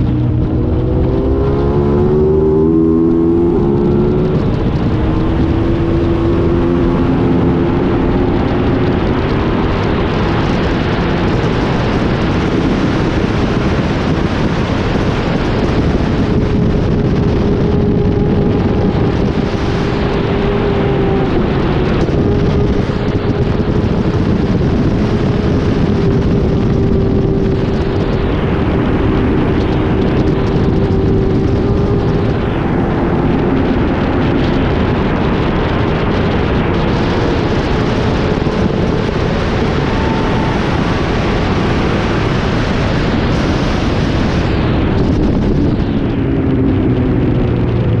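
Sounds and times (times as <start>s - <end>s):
motorcycle engine at high revs: 0.0s - 48.0s
wind rush on microphone: 0.0s - 48.0s.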